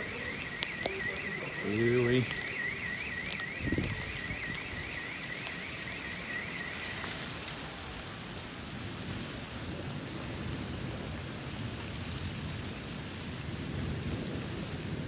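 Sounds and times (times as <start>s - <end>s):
gusty wind: 0.0s - 15.0s
rain hiss: 0.0s - 15.0s.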